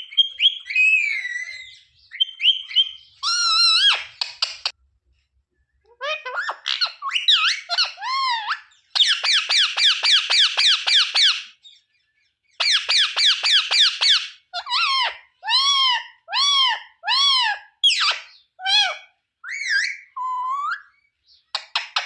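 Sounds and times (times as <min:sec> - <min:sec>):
parrot calling: 0:00.0 - 0:04.7, 0:05.9 - 0:11.6, 0:12.6 - 0:22.0.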